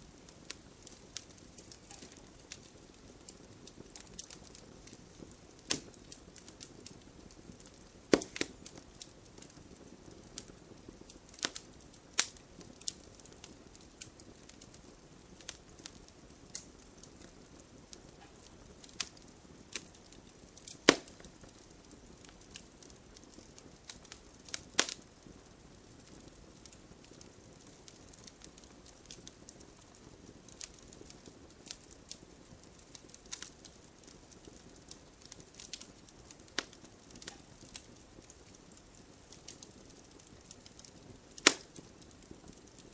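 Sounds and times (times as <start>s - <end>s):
fire pops and snaps: 0.0s - 42.9s
wood fire crackling: 0.0s - 42.9s.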